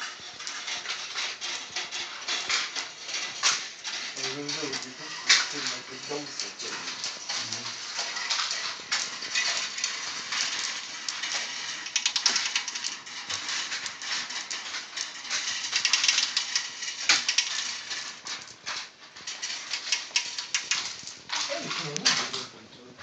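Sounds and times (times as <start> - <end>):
marbles rolling and clicking: 0.0 - 22.6.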